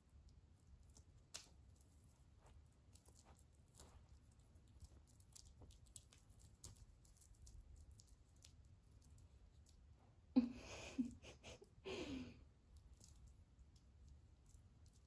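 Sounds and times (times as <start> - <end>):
kitten rustling with toy: 0.0 - 10.2, 12.6 - 15.0
low room hum: 0.0 - 15.0.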